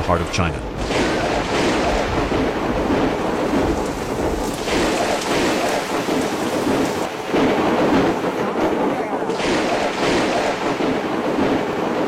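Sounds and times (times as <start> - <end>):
heavy rain: 0.0 - 12.0
storm wind: 0.0 - 12.0.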